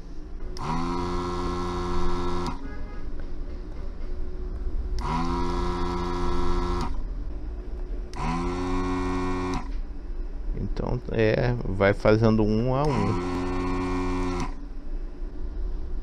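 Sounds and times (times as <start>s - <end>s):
desoldering vacuum pump humming: 0.0s - 16.0s.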